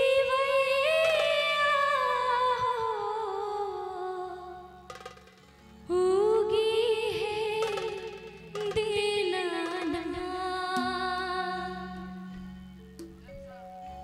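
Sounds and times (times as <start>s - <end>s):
woman singing into a microphone: 0.0s - 4.9s, 5.8s - 12.4s.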